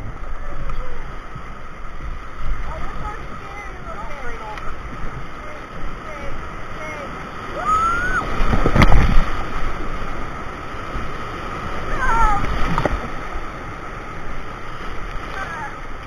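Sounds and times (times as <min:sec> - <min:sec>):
heavy water splash: 0:00.0 - 0:16.0
paddle strokes splashing: 0:00.0 - 0:16.0
whitewater rapids rushing: 0:01.0 - 0:16.0.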